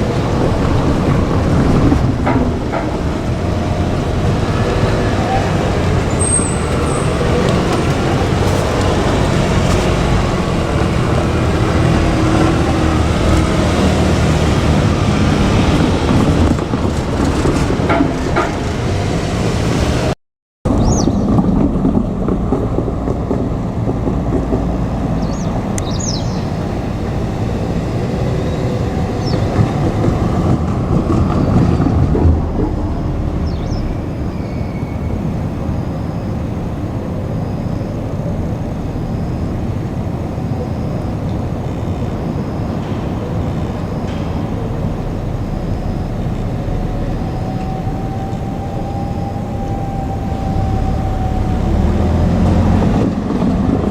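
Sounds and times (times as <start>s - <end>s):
electric train running past: 0.0s - 20.1s, 20.8s - 53.9s.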